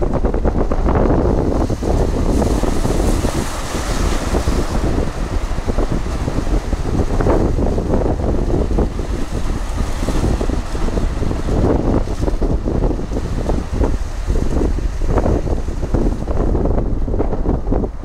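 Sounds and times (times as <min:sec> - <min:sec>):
sea waves breaking on rocks: 0:00.0 - 0:18.0
wind buffeting microphone: 0:00.0 - 0:18.0.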